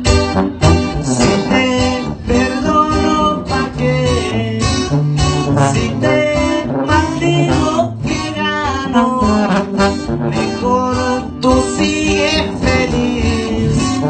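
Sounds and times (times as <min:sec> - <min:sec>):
acoustic guitars strumming: 0:00.0 - 0:14.0
wind instrument melody: 0:00.0 - 0:14.0.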